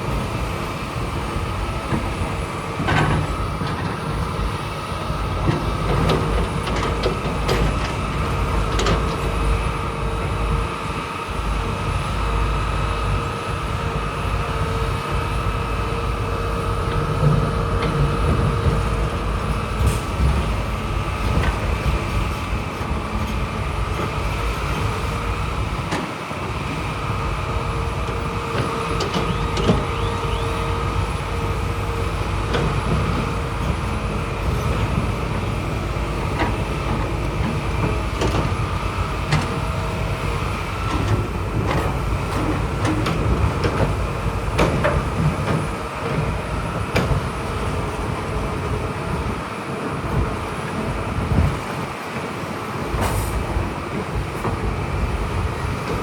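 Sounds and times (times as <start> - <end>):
diesel engines running under load: 0.0 - 56.0.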